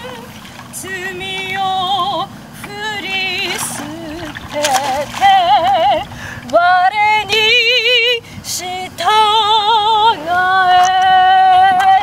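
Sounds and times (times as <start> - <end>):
woman singing a hymn: 0.0 - 12.0.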